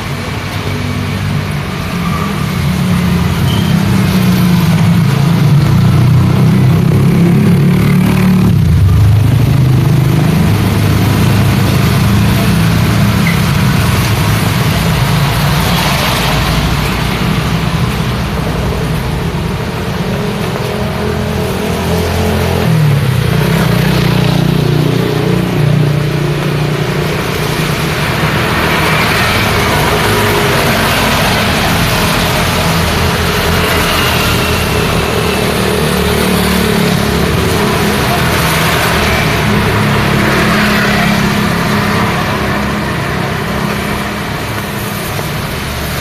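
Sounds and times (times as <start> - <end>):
tyres on wet road: 0.0 - 46.0
vehicle engines running: 0.0 - 46.0.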